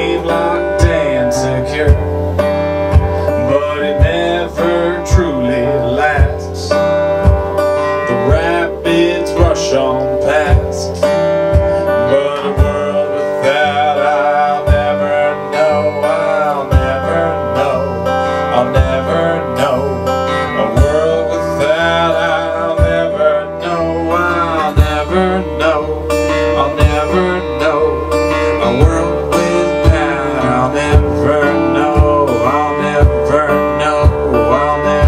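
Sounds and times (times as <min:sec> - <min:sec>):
acoustic guitar strumming: 0:00.0 - 0:35.0
man singing: 0:00.0 - 0:35.0.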